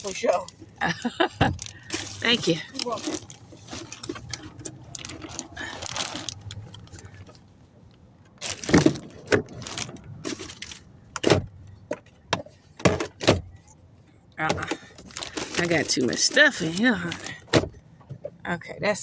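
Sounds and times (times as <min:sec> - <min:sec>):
rustle of handling objects: 0:00.0 - 0:12.9, 0:13.5 - 0:18.2.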